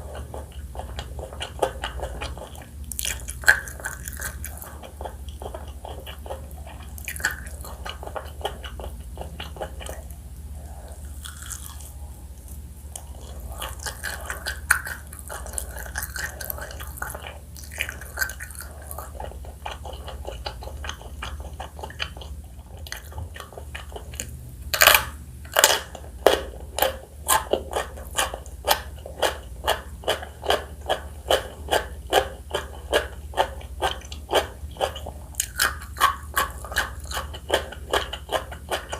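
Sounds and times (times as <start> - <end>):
crunchy chewing of fried chicken: 0.0 - 38.9
steady low hum: 0.0 - 38.9.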